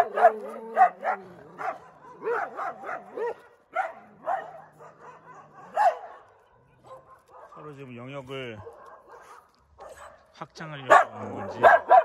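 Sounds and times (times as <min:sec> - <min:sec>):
dogs barking and yelping: 0:00.0 - 0:07.7, 0:08.6 - 0:10.2, 0:10.8 - 0:12.0.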